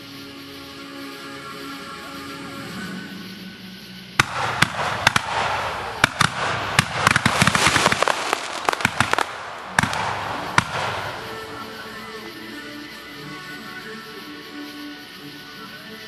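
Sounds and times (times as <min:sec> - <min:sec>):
fireworks bangs and crackling: 0:02.6 - 0:15.7.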